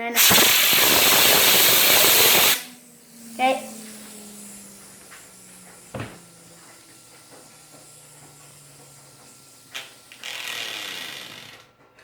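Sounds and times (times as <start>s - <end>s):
loud blast of air: 0.0s - 11.6s
compressed air hissing: 0.0s - 11.7s
fidget spinner whirring: 0.0s - 11.9s.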